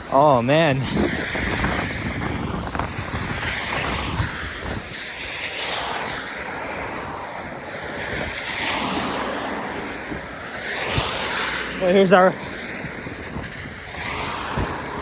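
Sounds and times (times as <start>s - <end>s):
wind gusting over microphone: 0.0s - 15.0s.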